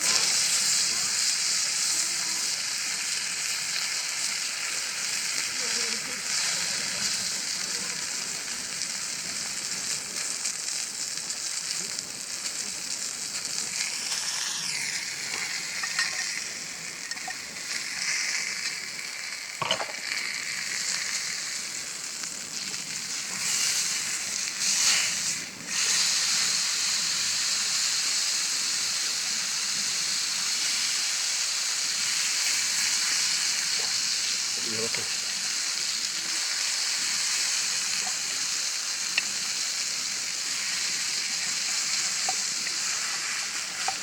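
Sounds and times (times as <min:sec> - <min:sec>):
food sizzling in a hot pan: 0:00.0 - 0:44.0.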